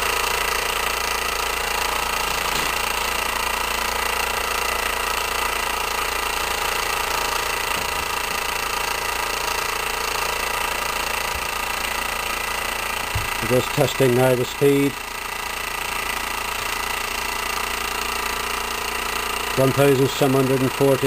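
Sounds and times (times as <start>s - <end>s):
stirling engine running: 0.0s - 21.0s.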